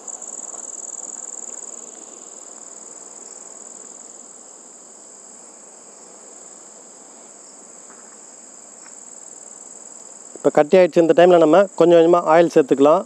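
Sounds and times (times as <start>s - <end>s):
cricket trill: 0.0s - 13.0s.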